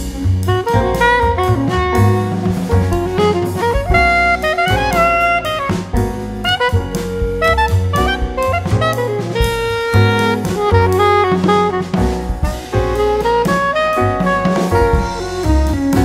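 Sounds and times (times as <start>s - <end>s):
instrumental music with drums: 0.0s - 16.0s.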